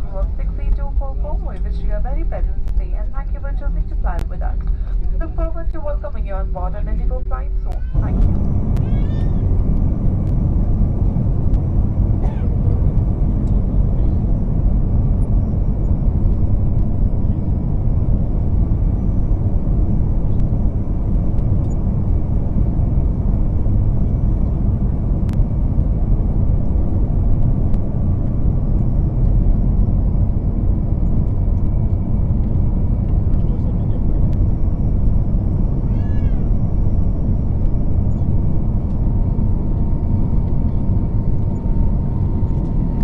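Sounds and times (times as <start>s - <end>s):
airliner engine rumble: 0.0s - 43.0s
high whine: 0.0s - 43.0s.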